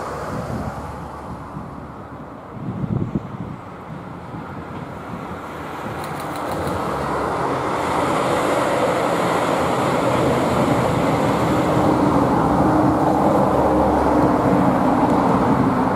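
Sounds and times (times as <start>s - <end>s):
diesel train passing: 0.0s - 15.9s.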